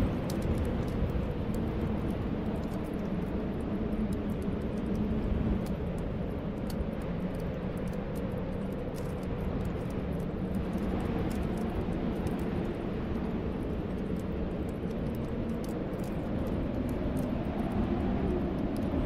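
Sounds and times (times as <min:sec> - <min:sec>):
whistling snowstorm wind: 0:00.0 - 0:19.0
wood fire crackling: 0:00.0 - 0:19.0.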